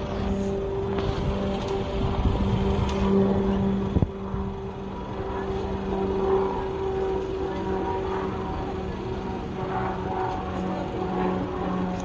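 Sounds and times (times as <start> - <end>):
steady engine hum: 0.0 - 12.0.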